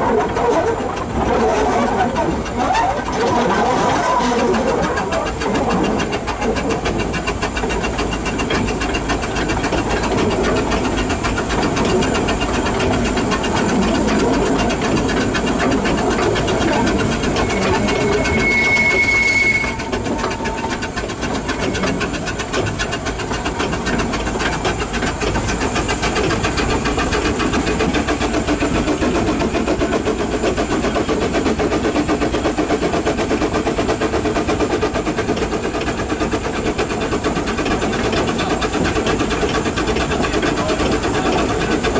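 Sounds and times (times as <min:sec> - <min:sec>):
steam locomotive exhaust beats: 0:00.0 - 0:41.9.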